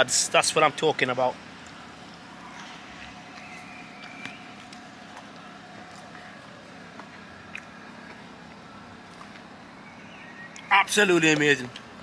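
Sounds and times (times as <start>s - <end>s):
passing traffic hum: 0.0s - 12.0s.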